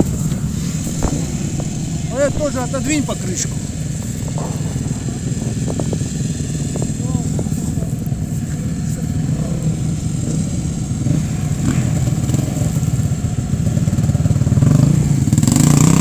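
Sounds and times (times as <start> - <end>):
engines idling: 0.0 - 16.0.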